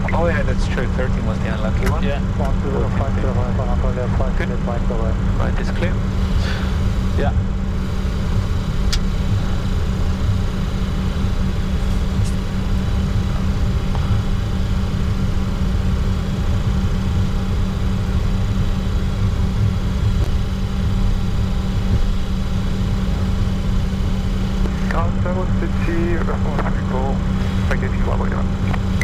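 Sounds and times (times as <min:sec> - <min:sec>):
jet cockpit engine rumble: 0:00.0 - 0:29.0.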